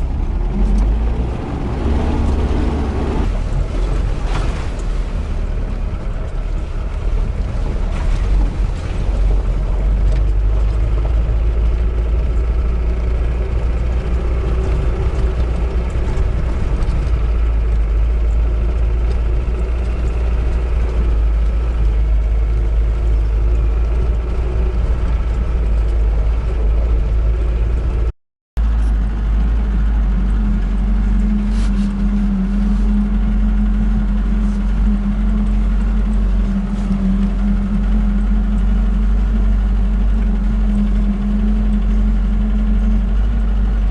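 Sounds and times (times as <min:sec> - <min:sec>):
steady drone: 0:00.0 - 0:43.9
van engine rumbling: 0:00.0 - 0:43.9.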